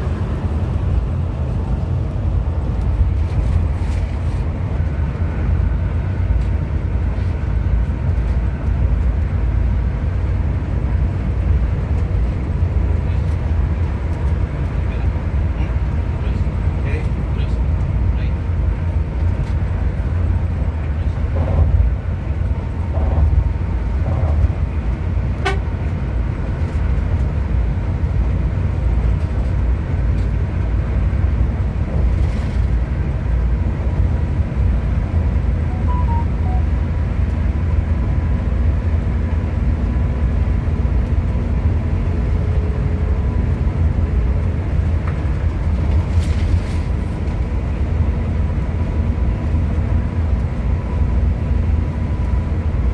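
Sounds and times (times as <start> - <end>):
coach engine and road rumble: 0.0 - 52.9.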